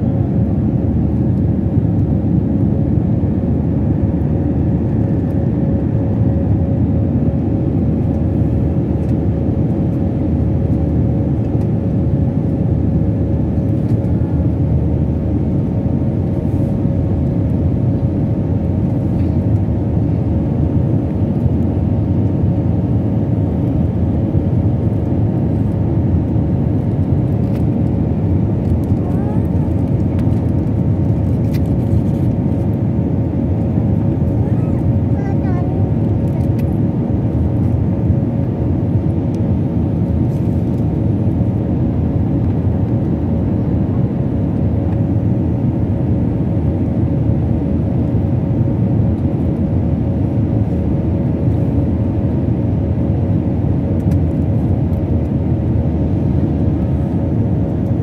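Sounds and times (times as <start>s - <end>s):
airliner cabin engine rumble: 0.0s - 58.0s
steady hum: 0.0s - 58.0s.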